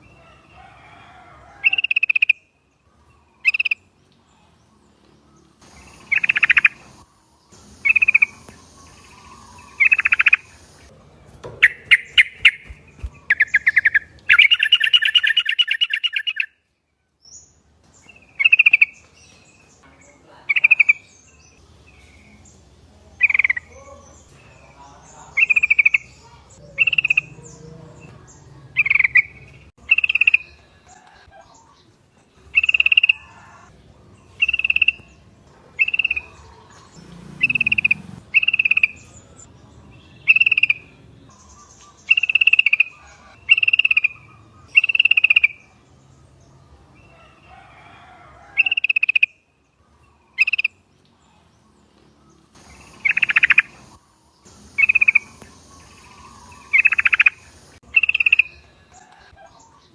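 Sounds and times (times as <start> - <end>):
bulbuls chirping: 0.0 - 59.9.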